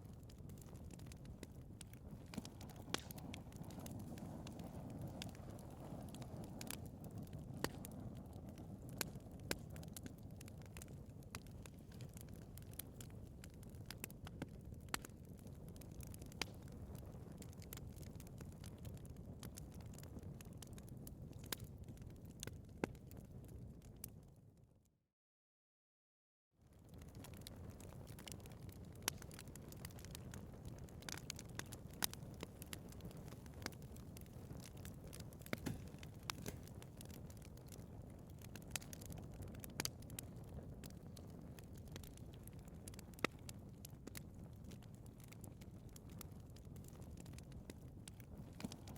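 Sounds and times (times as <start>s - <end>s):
crackles and pops of burning logs: 0.0s - 24.4s, 26.6s - 48.9s
low rumble of flames: 0.0s - 24.7s, 26.6s - 48.9s.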